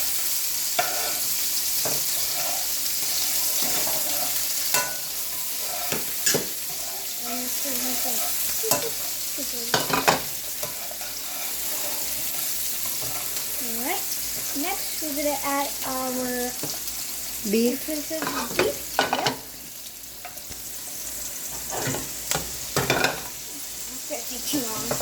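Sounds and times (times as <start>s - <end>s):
spices sizzling in a pan: 0.0s - 25.0s.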